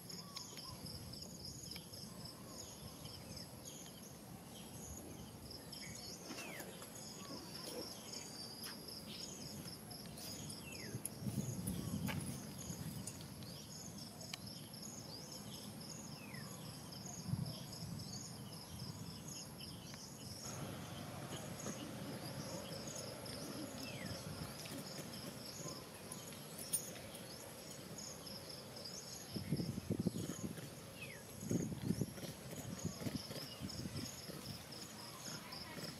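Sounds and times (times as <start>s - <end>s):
insects chirping: 0.0s - 35.9s.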